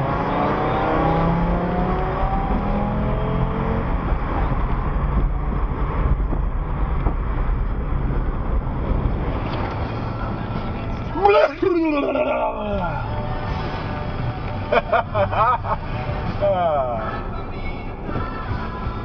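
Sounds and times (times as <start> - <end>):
car engine accelerating: 0.0 - 19.0
road rumble: 0.0 - 19.0.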